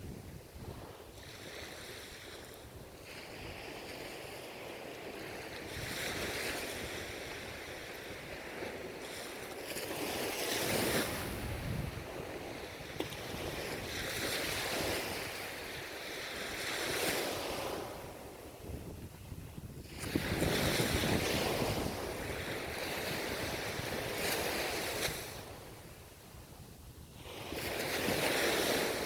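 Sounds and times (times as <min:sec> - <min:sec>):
wind buffeting microphone: 0:00.0 - 0:29.0
ocean waves breaking: 0:00.4 - 0:29.0.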